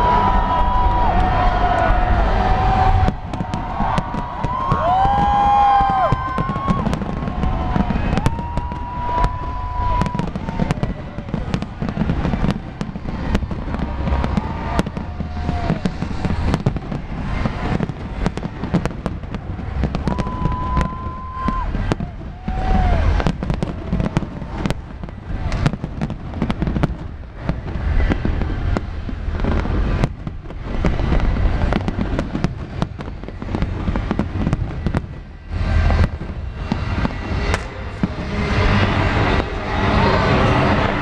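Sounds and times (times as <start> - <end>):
deep rumble: 0.0 - 41.0
fireworks bangs and crackles: 0.0 - 41.0
high fireworks whistles: 0.0 - 41.0.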